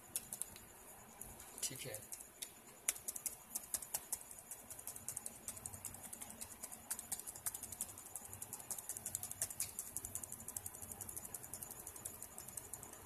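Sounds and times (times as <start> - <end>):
laptop keyboard keys clicking: 0.0 - 13.0.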